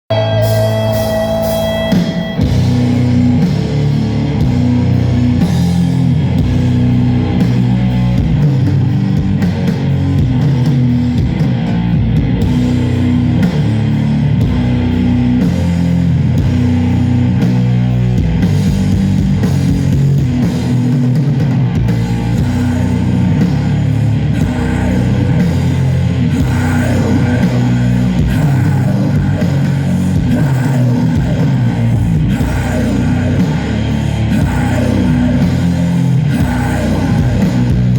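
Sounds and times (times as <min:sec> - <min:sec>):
distorted guitars and bass: 0:00.0 - 0:37.9
drum kit: 0:00.1 - 0:37.9.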